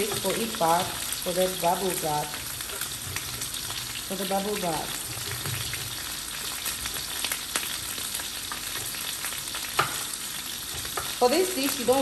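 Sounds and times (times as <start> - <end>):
chicken sizzling in hot oil: 0.0 - 12.0
oil crackling and popping: 0.0 - 12.0.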